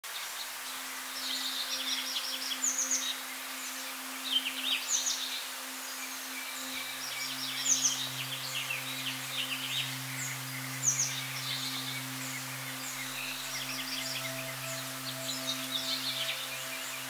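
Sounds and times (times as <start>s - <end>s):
songbirds chirping: 0.1s - 17.0s.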